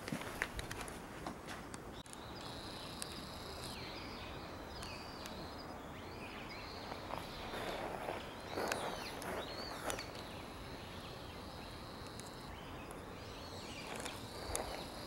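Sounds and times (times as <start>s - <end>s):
swooping bird calls: 2.0s - 15.0s.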